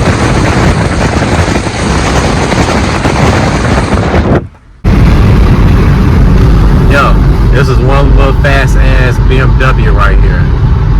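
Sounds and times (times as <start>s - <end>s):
vehicle noise: 0.0s - 10.9s
wind buffeting microphone: 0.0s - 10.9s.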